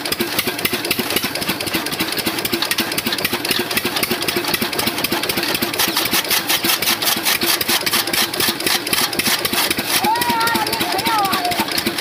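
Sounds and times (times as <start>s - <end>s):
diesel engine chugging: 0.0s - 12.0s
chaff cutter clattering: 0.4s - 12.0s.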